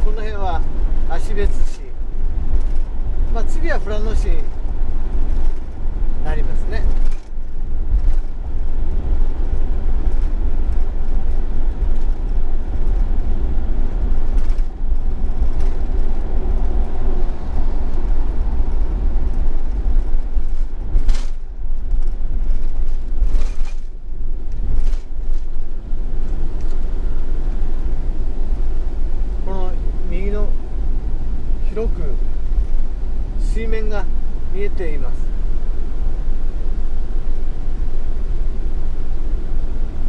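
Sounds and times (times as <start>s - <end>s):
road and engine rumble: 0.0s - 40.0s.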